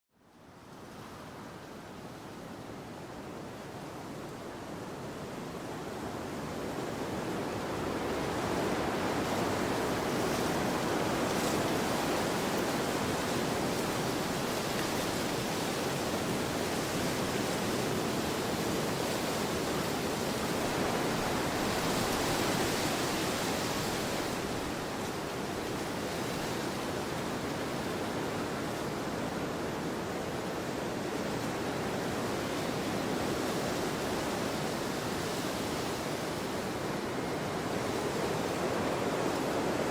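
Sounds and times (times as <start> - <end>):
wind rushing across a field: 0.4 - 39.9.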